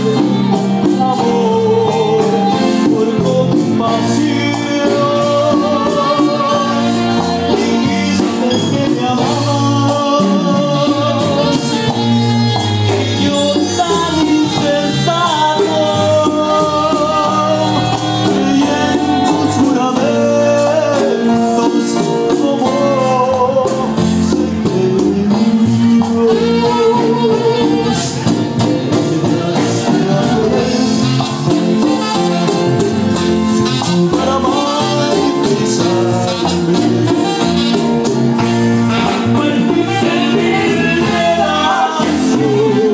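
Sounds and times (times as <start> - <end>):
latin dance band playing: 0.0 - 42.9
percussion beat: 0.0 - 42.9
person singing: 0.0 - 42.9.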